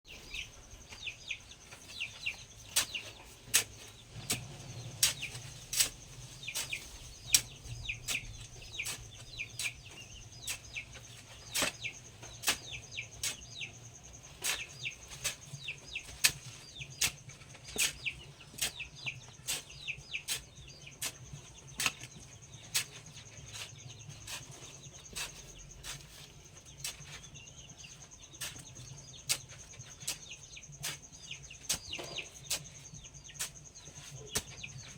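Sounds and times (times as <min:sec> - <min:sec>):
poultry chirping: 0:00.1 - 0:34.9.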